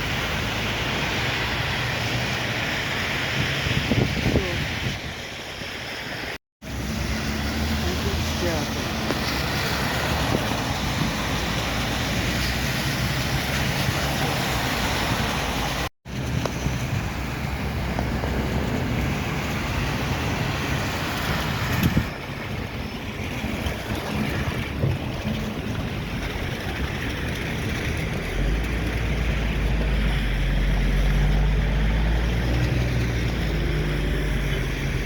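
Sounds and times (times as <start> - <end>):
traffic passing: 0.0 - 35.0
wind on microphone: 0.8 - 6.0, 8.7 - 35.0.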